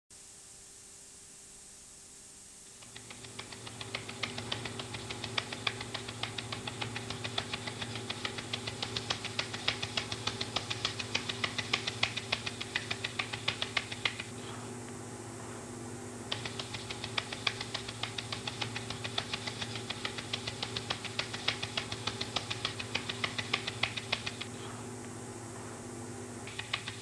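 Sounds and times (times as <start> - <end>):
steady low hum: 0.2 - 27.0.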